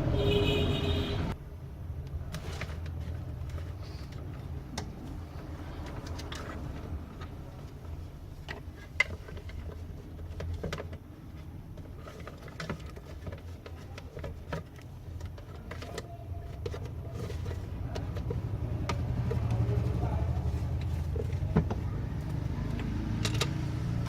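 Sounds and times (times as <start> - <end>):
low steady background rumble: 0.0 - 24.0.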